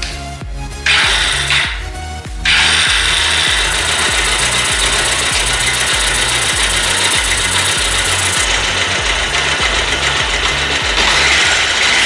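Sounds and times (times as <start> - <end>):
motorcycle engine idling: 0.9 - 12.0.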